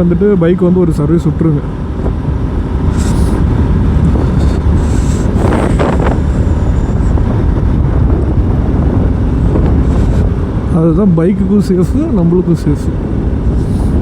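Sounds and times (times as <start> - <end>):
motorcycle engine and road rumble: 0.0 - 14.0
wind buffeting the microphone: 0.0 - 14.0.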